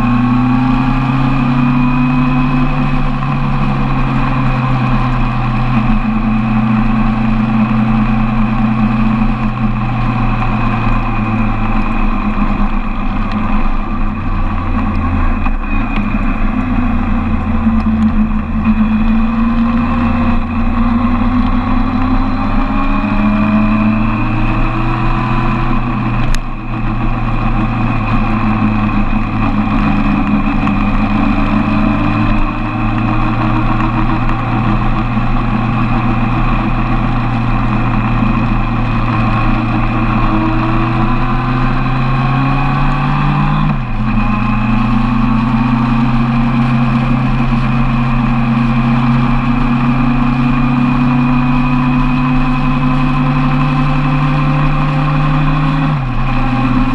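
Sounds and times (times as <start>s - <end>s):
motorcycle engine accelerating: 0.0s - 56.9s
wind and road noise: 0.0s - 56.9s.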